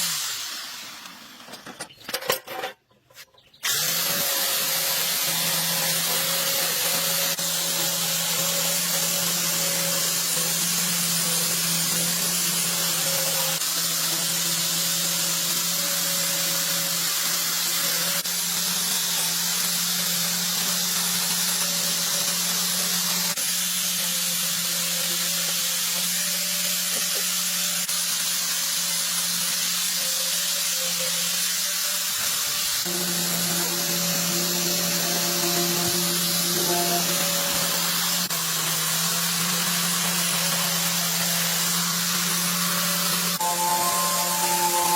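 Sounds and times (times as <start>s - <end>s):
power tool running: 0.0s - 2.0s, 3.6s - 44.9s.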